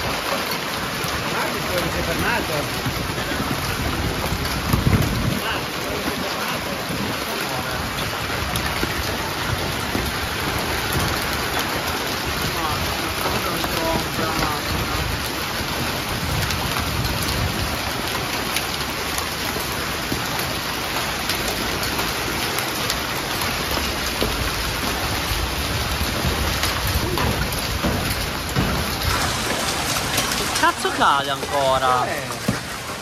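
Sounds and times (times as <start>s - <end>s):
hailstones ticking: 0.0s - 33.0s
heavy rain on pavement: 0.0s - 33.0s.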